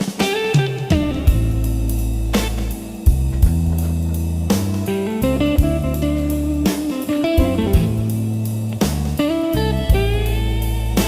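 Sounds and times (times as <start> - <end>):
drums: 0.0 - 11.0
electric guitar notes: 0.0 - 11.0
bass line: 0.9 - 11.0.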